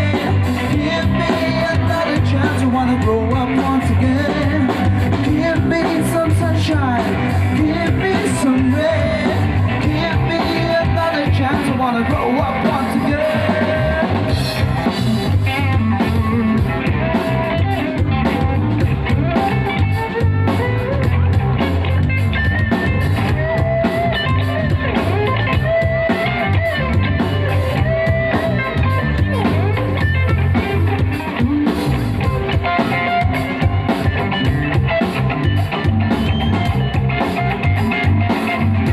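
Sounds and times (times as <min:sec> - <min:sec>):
heavy bass beat: 0:00.0 - 0:38.9
loud music with singing: 0:00.0 - 0:38.9.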